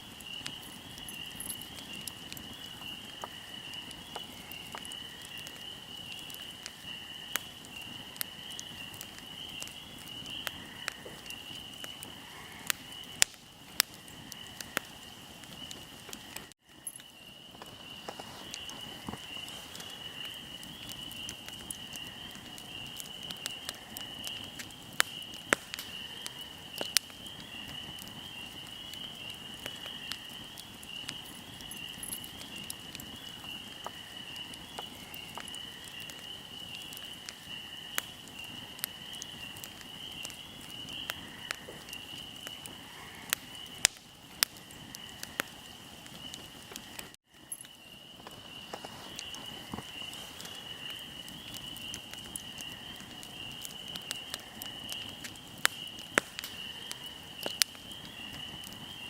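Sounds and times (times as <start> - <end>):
insects chirring: 0.0 - 59.0
wood fire crackling and popping: 0.0 - 59.0.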